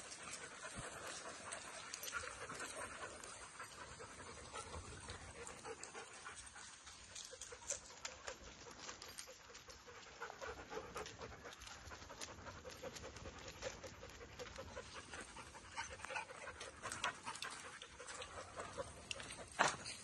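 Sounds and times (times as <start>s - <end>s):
dog feet clicking on asphalt: 0.0s - 20.0s
dog panting: 0.0s - 20.0s.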